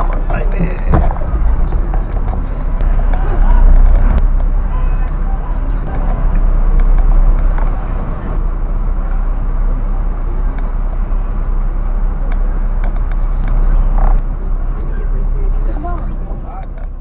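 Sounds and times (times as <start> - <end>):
people talking: 0.0 - 10.8, 13.6 - 17.0
diesel bus engine rumbling: 0.0 - 17.0.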